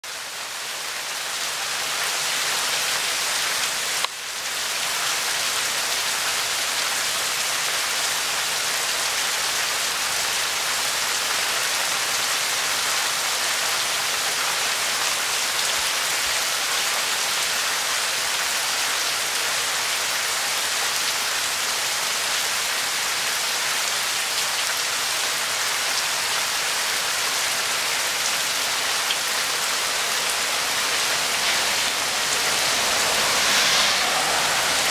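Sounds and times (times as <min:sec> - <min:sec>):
heavy rain on stone: 0:00.0 - 0:34.9.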